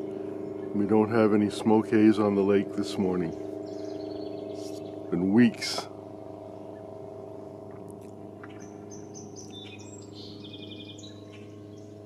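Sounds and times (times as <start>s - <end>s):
songbird singing with trill: 0.0s - 12.0s
steady low hum: 0.0s - 12.0s.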